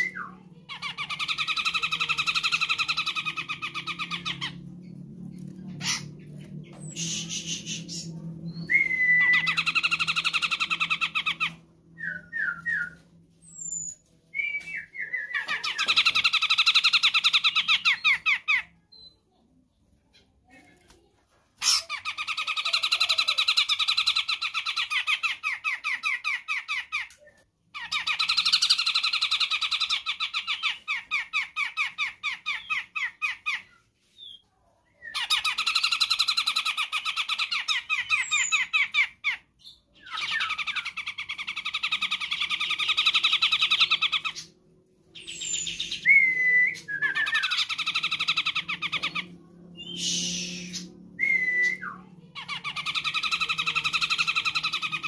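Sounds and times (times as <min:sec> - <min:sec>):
bird chattering song: 0:00.0 - 0:19.3, 0:21.6 - 0:34.4, 0:35.0 - 0:55.0.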